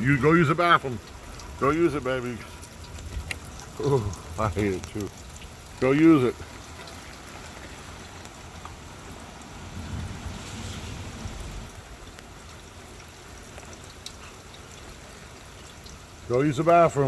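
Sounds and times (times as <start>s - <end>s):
raindrops ticking close by: 0.0s - 17.0s
steady rain falling: 0.0s - 17.0s.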